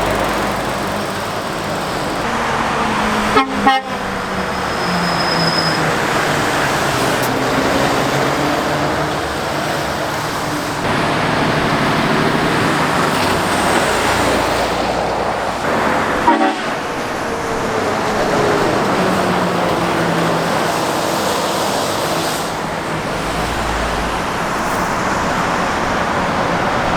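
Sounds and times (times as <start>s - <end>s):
diesel engine drone: 0.0s - 26.9s.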